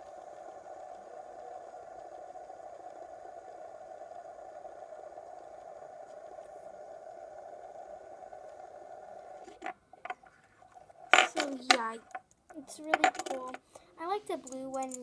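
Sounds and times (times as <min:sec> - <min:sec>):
fidget spinner whirring: 0:00.0 - 0:15.0.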